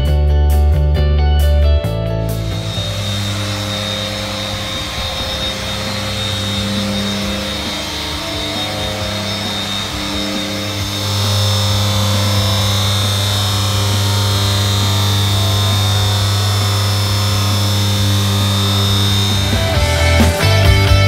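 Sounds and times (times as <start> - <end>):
electric polisher on glass: 2.3 - 21.0.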